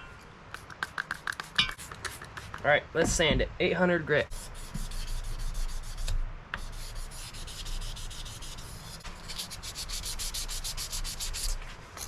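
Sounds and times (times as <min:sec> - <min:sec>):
sandpaper rubbing on knife blade: 0:00.6 - 0:02.6, 0:04.2 - 0:12.0.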